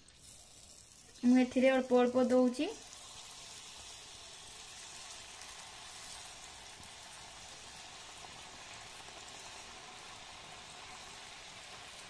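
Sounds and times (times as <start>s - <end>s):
batter deep-frying in oil: 0.0s - 12.0s.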